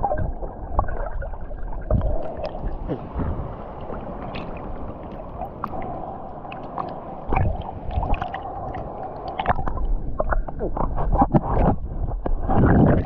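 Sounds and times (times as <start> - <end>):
heavy low water surge: 0.0 - 13.0
sea water sloshing and gurgling: 0.0 - 13.0.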